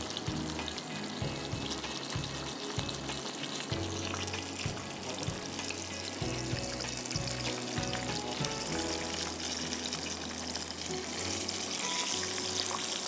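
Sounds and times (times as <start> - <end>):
background music: 0.0 - 13.0
chicken sizzling in hot oil: 0.0 - 13.0.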